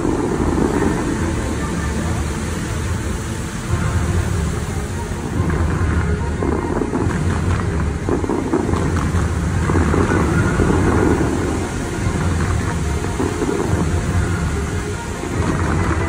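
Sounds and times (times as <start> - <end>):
fountain water jets splashing: 0.0 - 16.0
wind rumble on microphone: 0.0 - 16.0.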